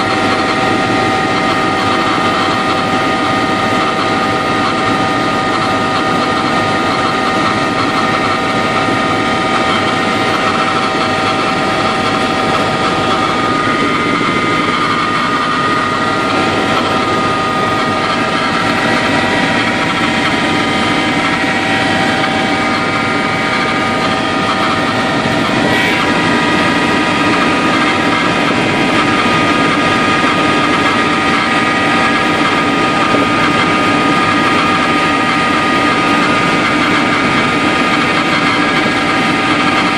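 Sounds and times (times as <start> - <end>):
helicopter engine and rotors: 0.0 - 39.9
high whine: 0.0 - 39.9.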